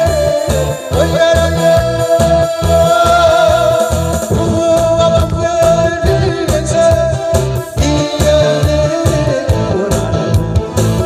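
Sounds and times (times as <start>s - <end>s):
backing track with bass beat: 0.0s - 11.0s
man singing into microphone: 0.0s - 11.0s.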